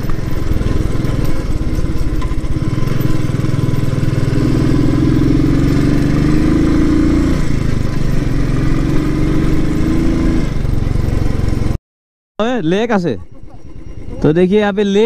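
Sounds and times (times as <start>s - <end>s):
motorcycle engine running: 0.0s - 11.8s, 12.4s - 15.0s.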